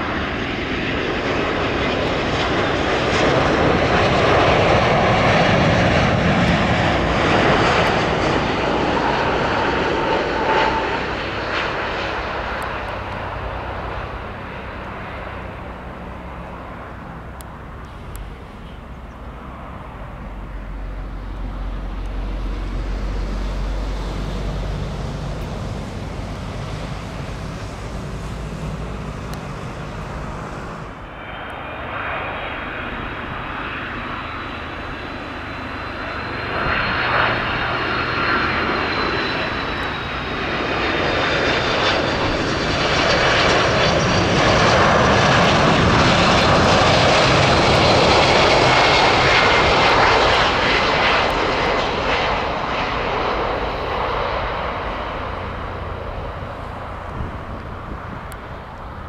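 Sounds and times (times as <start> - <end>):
jet airliner passing overhead: 0.0 - 59.0.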